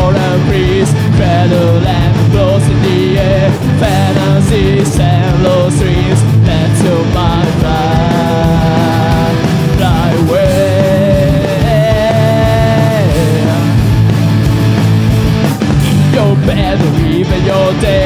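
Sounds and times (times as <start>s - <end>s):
man singing lead vocal: 0.0s - 14.1s, 15.9s - 18.0s
distorted electric guitars: 0.0s - 18.0s
drum kit: 0.0s - 18.0s.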